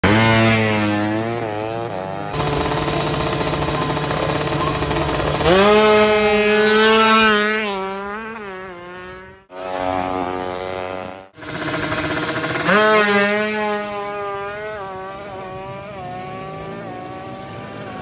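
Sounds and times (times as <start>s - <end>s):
motorcycle idling with rattle: 0.0s - 7.3s, 9.9s - 18.0s
motorcycle engine revving: 0.0s - 18.0s.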